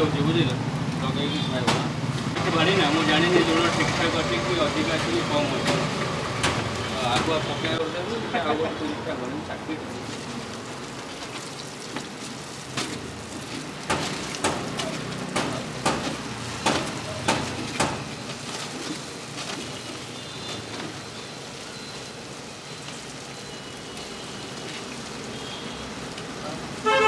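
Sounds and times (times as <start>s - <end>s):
oil sizzling: 0.0s - 27.0s
sharp crackles of frying: 0.0s - 27.0s.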